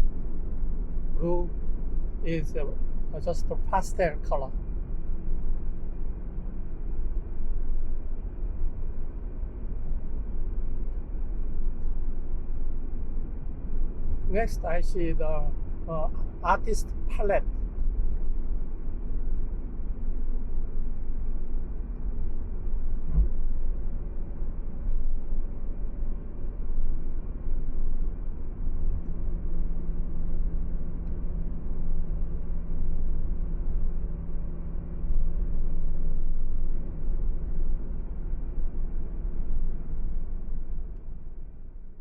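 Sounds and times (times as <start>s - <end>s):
car tyres and engine rumble: 0.0s - 42.0s
steady hum: 0.0s - 42.0s.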